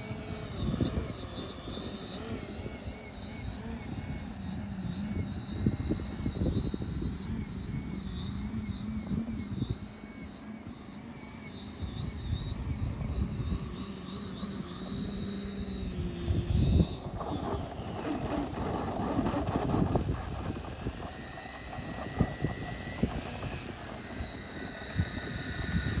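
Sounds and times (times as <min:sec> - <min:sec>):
wind noise on microphone: 0:00.0 - 0:10.3, 0:11.2 - 0:26.0
electric motor and propeller whine: 0:00.0 - 0:26.0.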